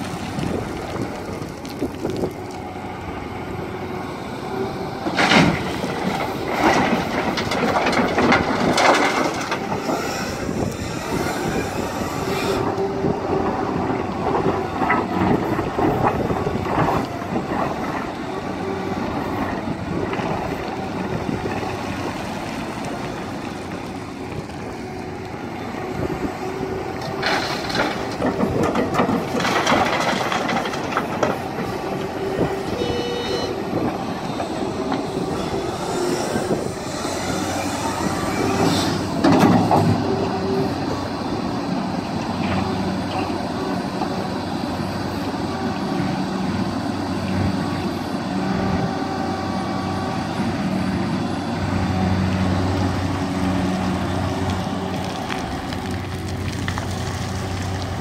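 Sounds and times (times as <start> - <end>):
excavator engine: 0.0 - 58.0.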